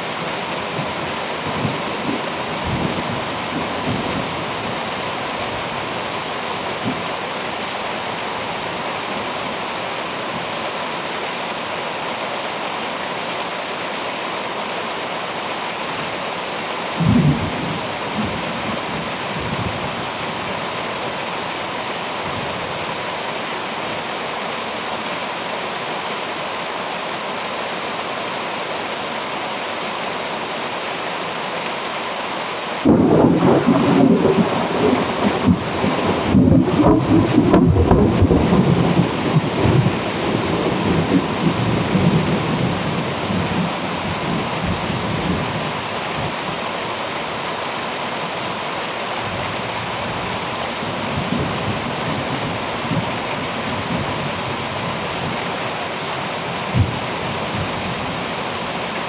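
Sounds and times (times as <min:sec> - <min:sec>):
heavy rain on plants: 0:00.0 - 0:59.0.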